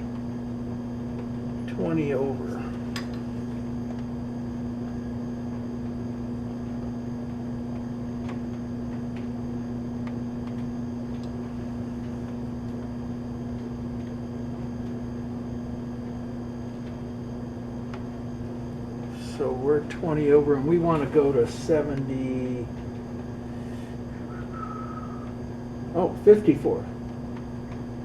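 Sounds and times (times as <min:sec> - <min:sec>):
electric motor hum: 0:00.0 - 0:28.0.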